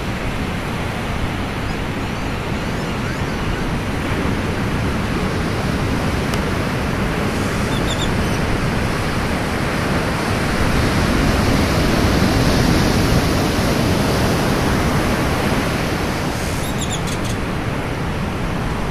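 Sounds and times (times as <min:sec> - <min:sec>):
ocean surf breaking: 0:00.0 - 0:18.9.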